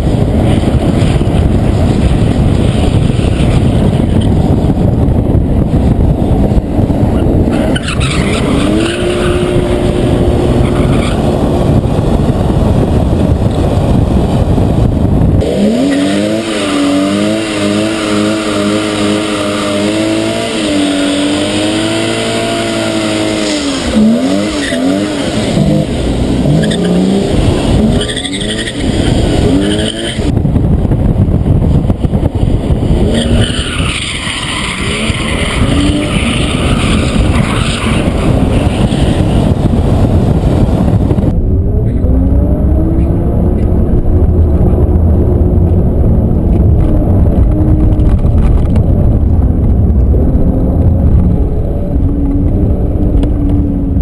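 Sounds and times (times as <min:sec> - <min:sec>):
car engine revving: 0:00.0 - 0:30.4, 0:31.7 - 0:54.0.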